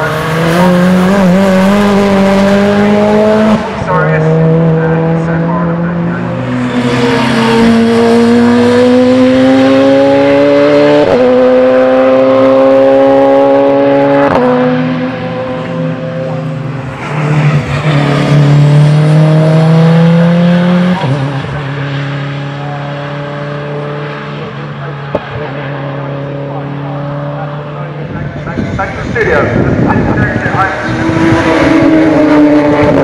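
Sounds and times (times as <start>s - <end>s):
race car engines accelerating: 0.0s - 33.0s.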